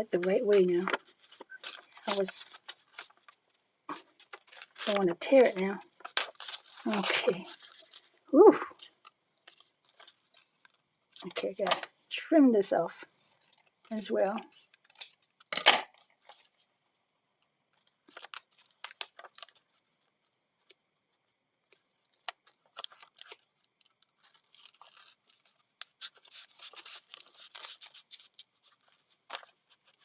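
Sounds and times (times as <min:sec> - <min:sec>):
paper rustling and scratching: 0:00.0 - 0:12.0, 0:12.9 - 0:16.7, 0:17.6 - 0:30.0.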